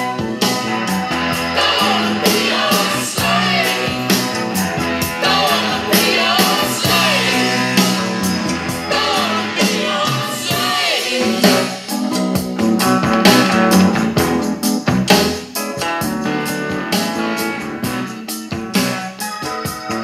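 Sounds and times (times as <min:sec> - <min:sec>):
song through boombox speakers: 0:00.0 - 0:20.0.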